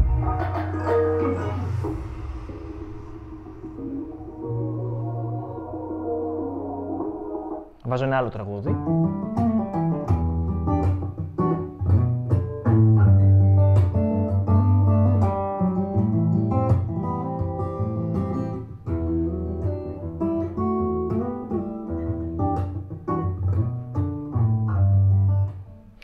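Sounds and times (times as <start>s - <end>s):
guitar-led song with bass: 0.0s - 7.8s, 8.7s - 26.0s.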